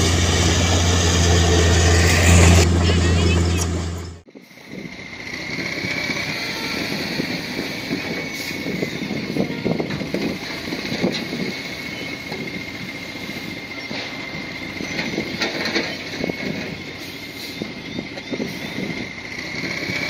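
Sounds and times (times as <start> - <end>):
high whine: 0.0 - 19.2
bulldozer diesel engine: 0.0 - 20.0.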